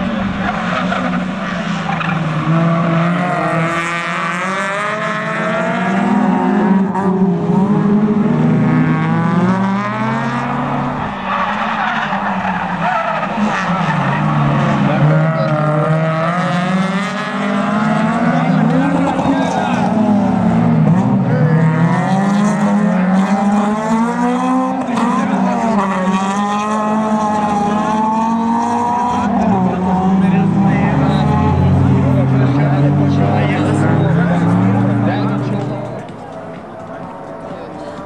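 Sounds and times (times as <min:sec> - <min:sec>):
racing car engines revving: 0:00.0 - 0:38.0.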